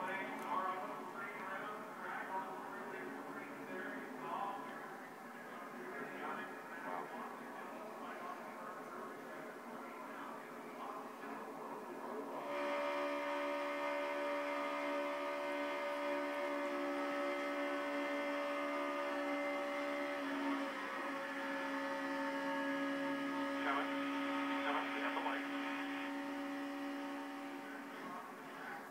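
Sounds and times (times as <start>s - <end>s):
race car engine drone: 0.0s - 28.9s.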